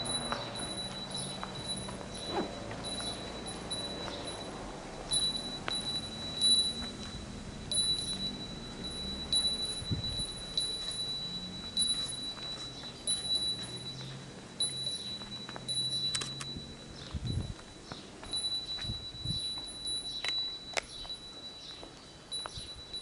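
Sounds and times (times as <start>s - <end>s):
small bell ringing: 0.0s - 23.0s.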